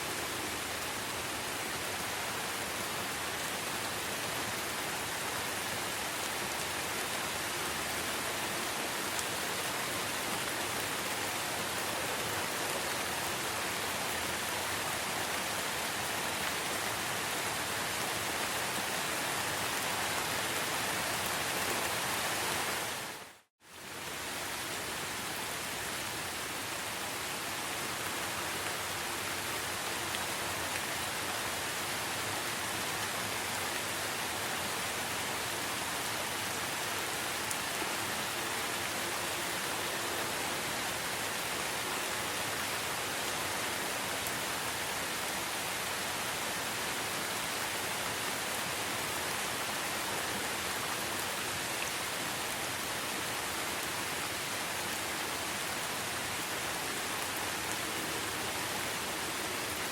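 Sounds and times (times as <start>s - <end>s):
dense rainfall: 0.0s - 59.9s.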